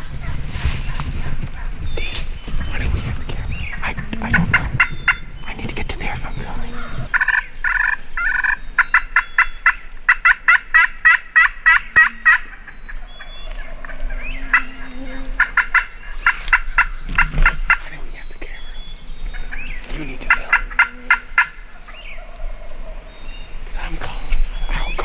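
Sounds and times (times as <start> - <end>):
turkey calling: 0.0 - 25.0.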